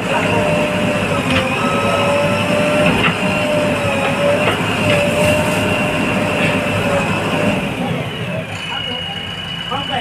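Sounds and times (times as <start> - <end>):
diesel engine rumbling under load: 0.0 - 10.0.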